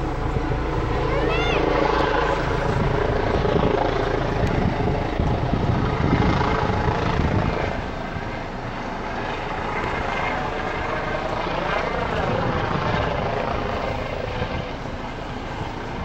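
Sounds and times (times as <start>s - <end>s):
helicopter flying low: 0.0s - 16.0s.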